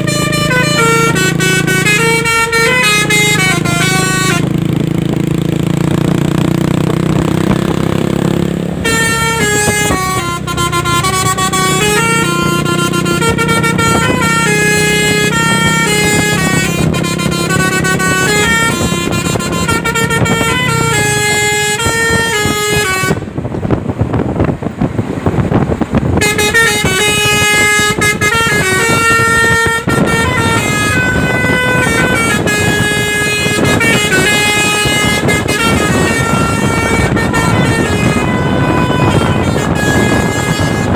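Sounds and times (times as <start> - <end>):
multi-tone air horn melody: 0.0 - 4.7, 8.8 - 23.4, 26.1 - 40.9.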